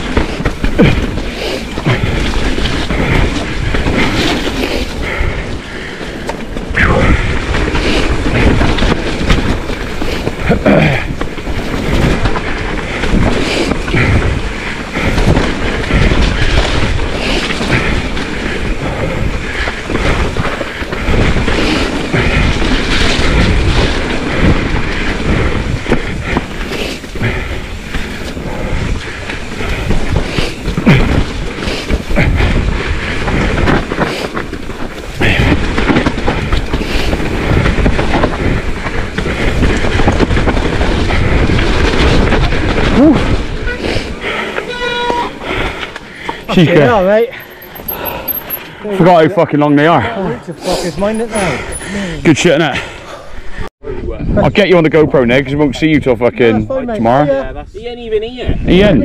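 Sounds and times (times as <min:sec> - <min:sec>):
bike rattling and knocking: 0:00.0 - 0:50.2, 0:50.9 - 0:53.0
bike tyres rumbling over trail: 0:00.0 - 0:59.0.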